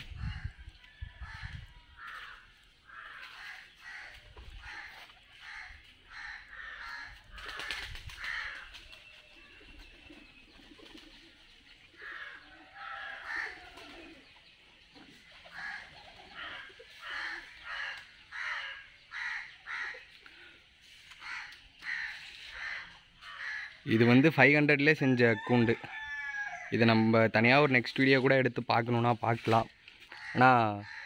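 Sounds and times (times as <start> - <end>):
birds cawing harshly: 0.0 - 14.3, 15.0 - 27.6, 29.2 - 31.0.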